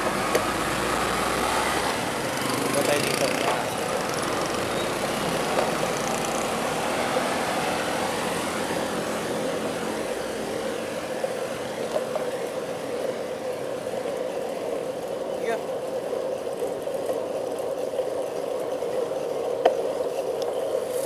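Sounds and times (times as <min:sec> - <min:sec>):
vehicle engines in slow traffic: 0:00.0 - 0:21.0.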